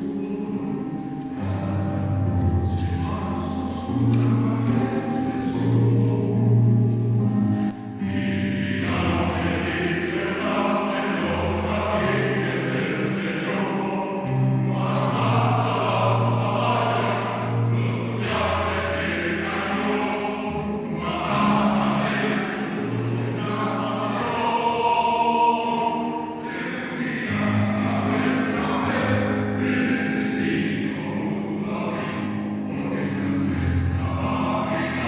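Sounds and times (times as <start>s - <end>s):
choir singing: 0.0s - 35.0s.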